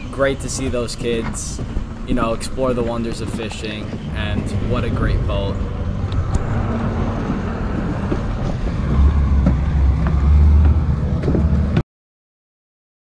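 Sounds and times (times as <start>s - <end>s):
boat outboard engines rumbling: 0.0s - 11.8s.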